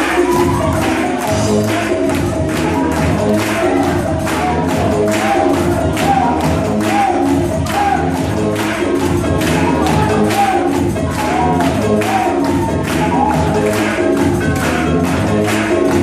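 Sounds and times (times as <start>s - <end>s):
dance music over loudspeakers: 0.0s - 16.0s.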